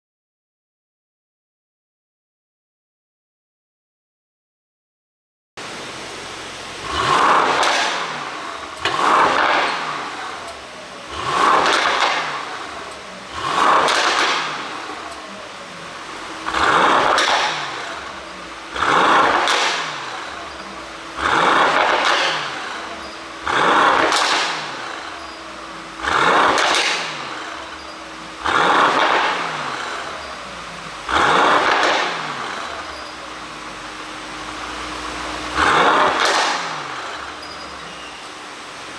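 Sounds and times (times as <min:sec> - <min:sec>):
car engine revving: 0:05.6 - 0:38.9
exhaust pops and crackles: 0:05.6 - 0:38.9.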